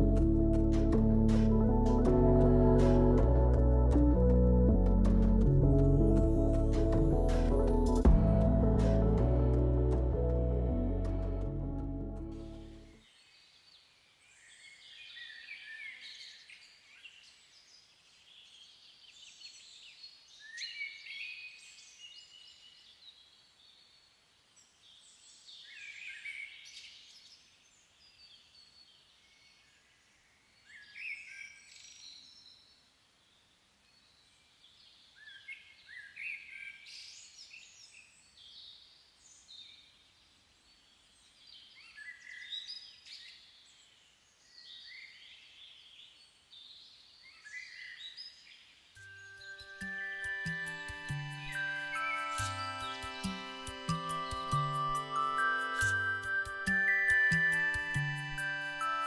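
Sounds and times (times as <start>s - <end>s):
faint outdoor background: 0.0s - 59.0s
songbird chirping: 0.0s - 59.0s.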